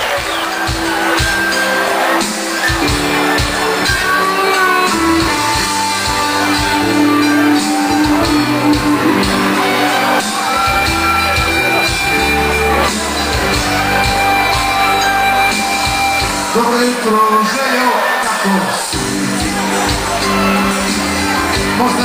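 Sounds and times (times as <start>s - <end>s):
live pop band playing: 0.0s - 22.0s.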